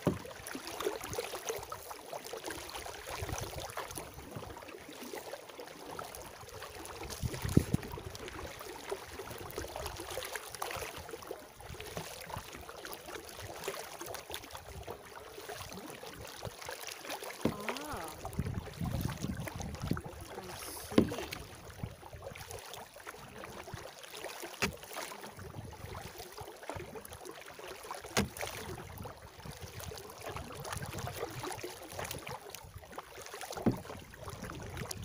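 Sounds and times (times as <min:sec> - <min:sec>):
kayak paddle splashing: 0:00.0 - 0:35.0
water running off paddle: 0:00.0 - 0:35.0.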